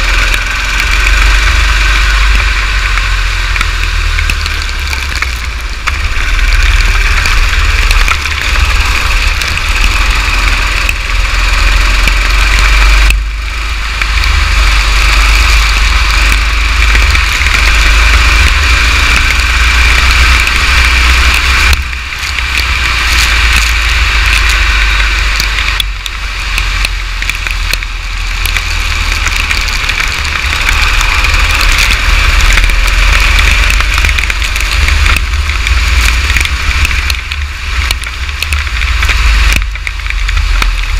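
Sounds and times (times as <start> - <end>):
go-kart engine running: 0.0 - 40.9
rain and wind on microphone: 0.0 - 40.9.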